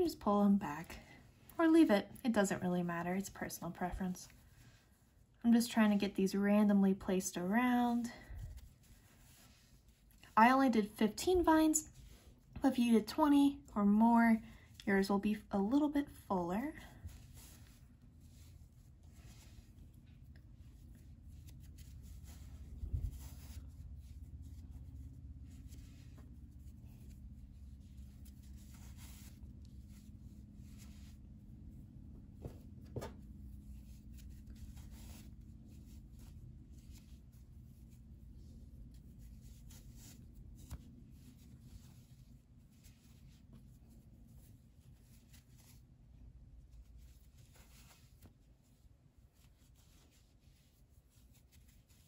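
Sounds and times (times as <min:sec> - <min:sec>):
yarn rustling and rubbing: 0:01.5 - 0:13.7, 0:14.4 - 0:52.0.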